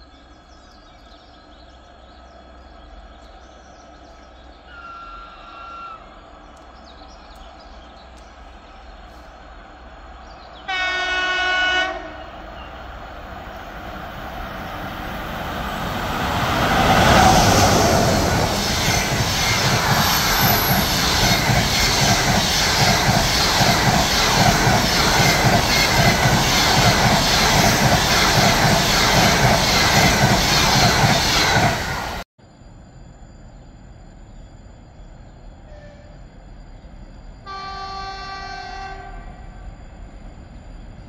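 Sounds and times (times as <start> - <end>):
train passing: 0.0 - 32.2, 32.8 - 41.0.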